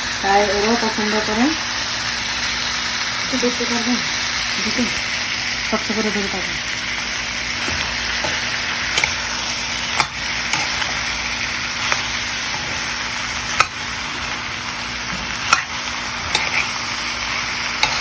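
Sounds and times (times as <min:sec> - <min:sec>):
chickpeas sizzling in oil: 0:00.0 - 0:18.0.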